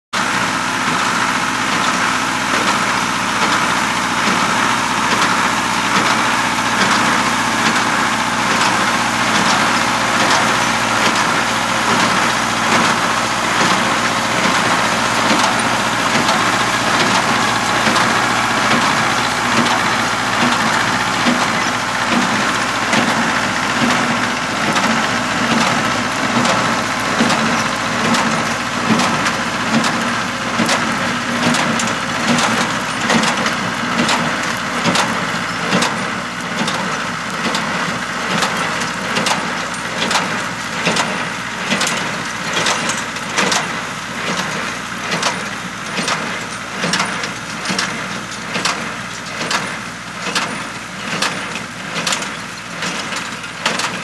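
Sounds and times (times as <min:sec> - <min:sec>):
tractor engine running: 0:00.2 - 0:54.0.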